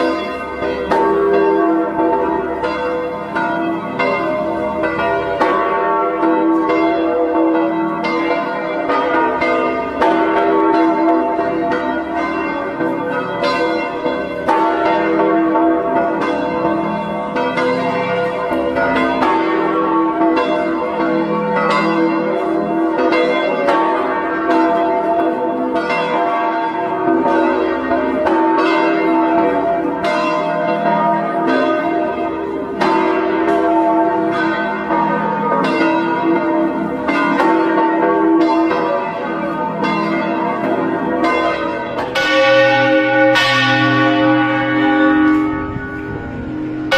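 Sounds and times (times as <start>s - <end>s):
church bells pealing: 0.0s - 46.9s.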